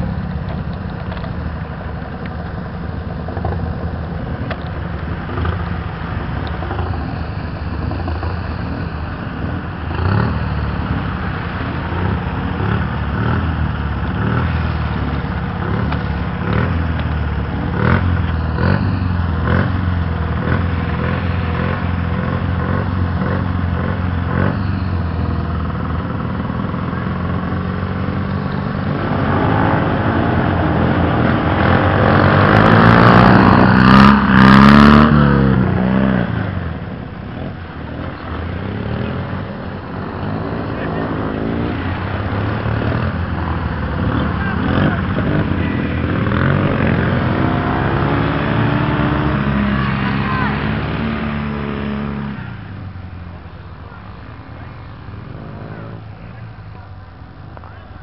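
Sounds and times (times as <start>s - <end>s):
quad bike and motorcycle engines: 0.0s - 58.0s.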